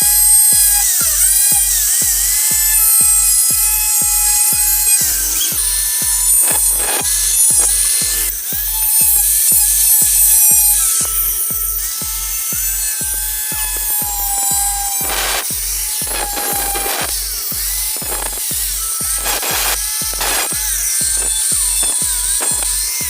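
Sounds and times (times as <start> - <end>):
electronic music with synth tones: 0.0 - 23.0.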